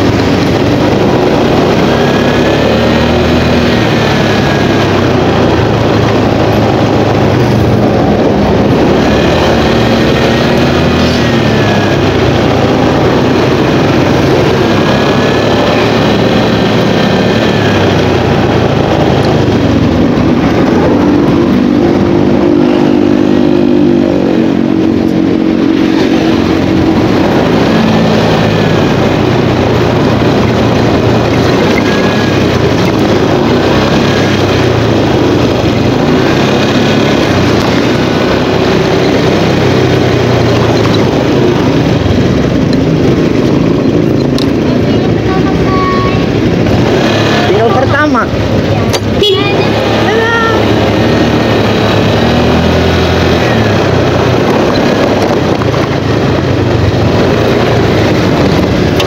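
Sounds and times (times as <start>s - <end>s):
motorcycle engine and wind rush: 0.0s - 59.0s.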